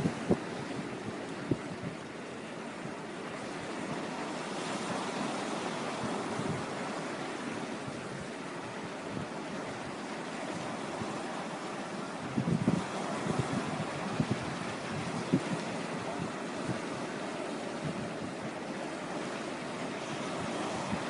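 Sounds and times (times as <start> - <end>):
waves washing onto stony shore: 0.0 - 21.0
wind buffeting microphone: 0.0 - 21.0.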